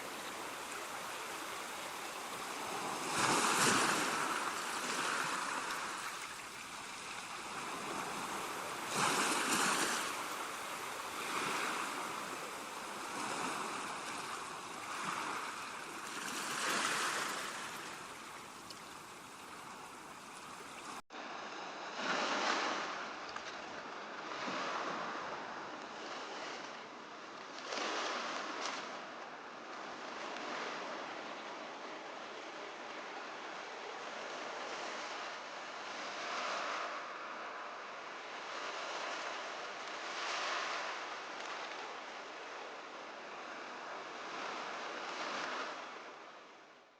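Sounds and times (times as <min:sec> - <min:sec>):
ocean waves breaking: 0:00.0 - 0:46.5.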